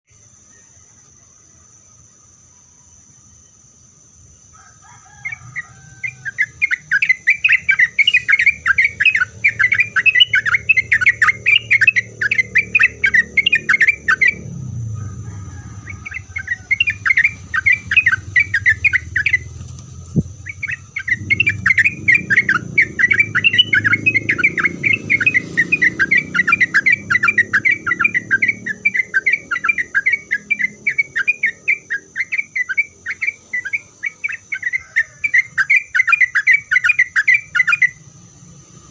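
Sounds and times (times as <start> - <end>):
bird chattering song: 5.1 - 38.1.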